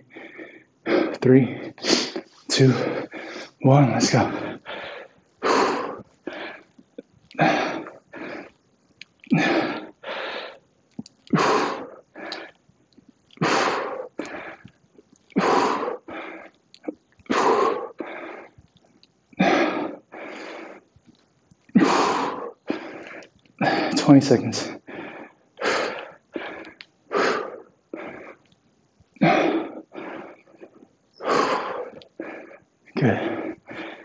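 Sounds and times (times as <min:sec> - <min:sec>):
man breathing hard: 0:00.0 - 0:08.6, 0:09.3 - 0:10.6, 0:11.2 - 0:12.6, 0:13.4 - 0:16.6, 0:17.3 - 0:18.6, 0:19.4 - 0:20.9, 0:21.8 - 0:24.0, 0:24.6 - 0:28.5, 0:29.2 - 0:34.0.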